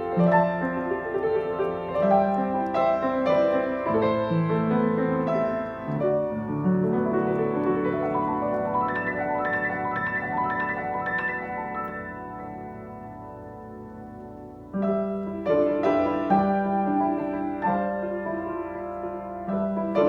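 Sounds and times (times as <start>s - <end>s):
slow gentle piano piece: 0.0s - 20.0s.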